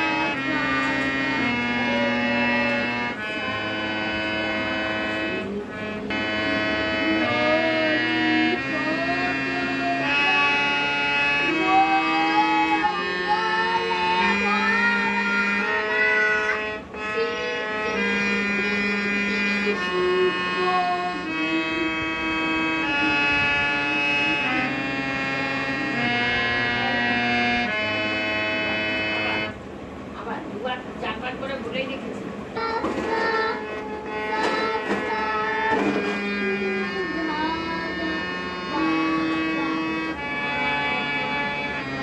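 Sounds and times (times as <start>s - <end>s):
harmonium held notes: 0.0s - 42.0s.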